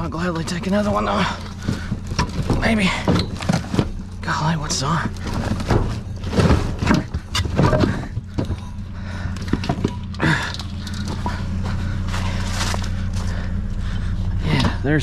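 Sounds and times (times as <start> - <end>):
vehicle engine idling: 0.0 - 15.0
scrap items clattering: 0.3 - 13.6.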